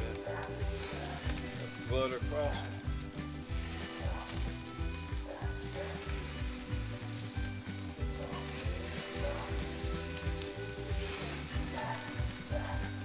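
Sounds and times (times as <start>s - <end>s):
low rhythmic pulse: 0.0s - 13.0s
vegetables sizzling on a grill: 0.0s - 13.0s.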